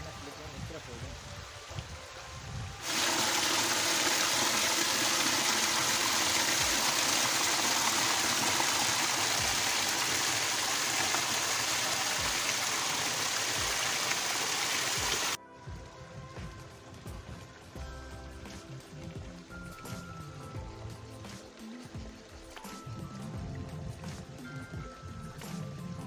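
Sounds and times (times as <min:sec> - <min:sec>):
water rushing over boulders: 0:00.0 - 0:26.0.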